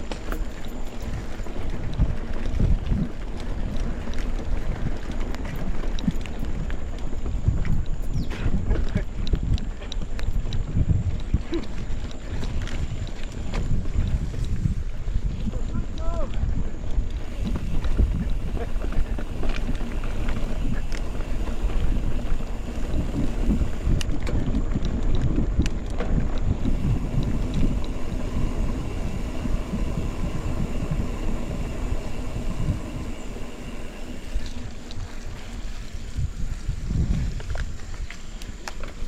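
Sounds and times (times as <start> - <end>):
bike clicks and rattles: 0.0 - 39.0
wind buffeting microphone: 0.0 - 39.0.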